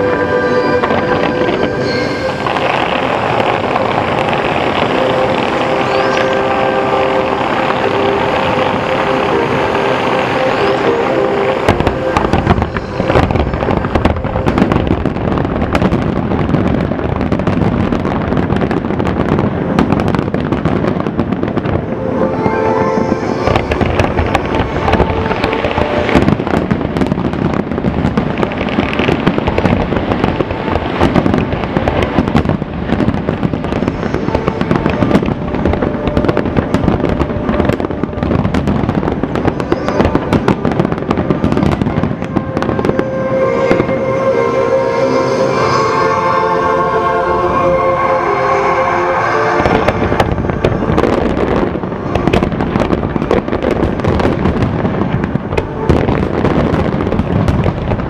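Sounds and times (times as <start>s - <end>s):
fireworks bangs and crackles: 0.0s - 46.0s, 47.0s - 58.0s.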